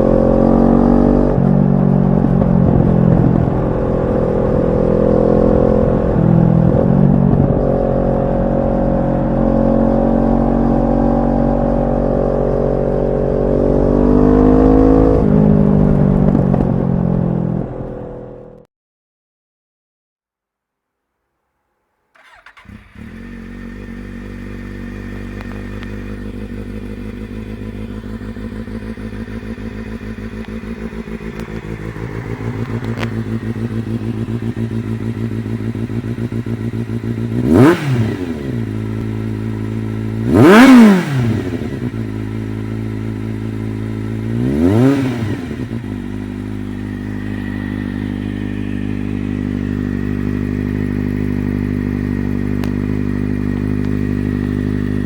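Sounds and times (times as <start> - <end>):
motorcycle engine idling and revving: 0.0 - 18.7, 22.1 - 55.0.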